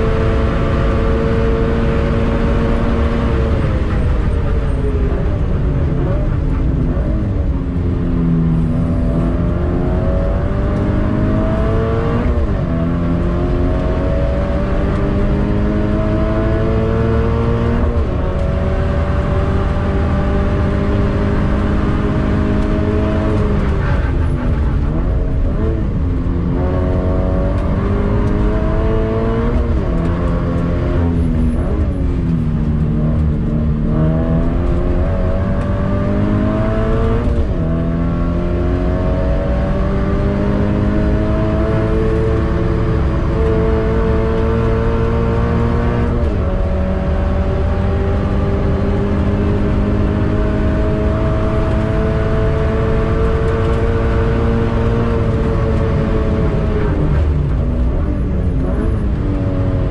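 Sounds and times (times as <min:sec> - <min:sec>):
car engine accelerating and shifting: 0:00.0 - 0:59.9.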